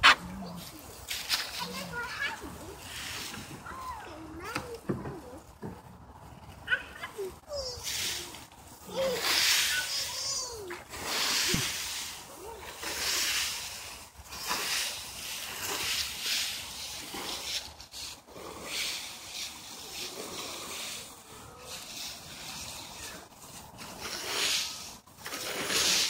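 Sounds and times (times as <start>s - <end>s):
rakes scraping through dry leaves: 0.0s - 26.0s.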